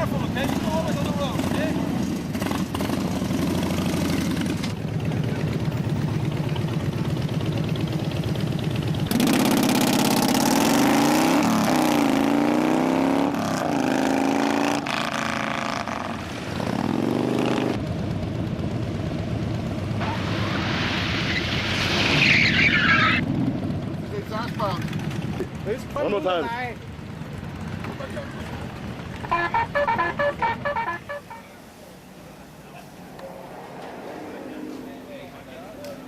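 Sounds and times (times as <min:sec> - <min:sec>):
motorcycle engines revving: 0:00.0 - 0:20.2, 0:23.0 - 0:36.0.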